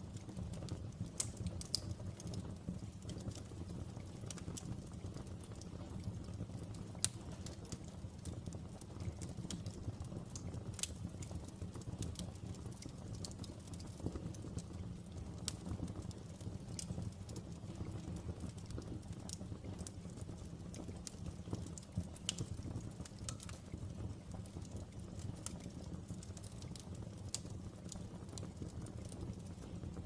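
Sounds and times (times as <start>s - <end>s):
fire crackling and popping: 0.0s - 30.0s
open fire rumbling: 0.0s - 30.0s.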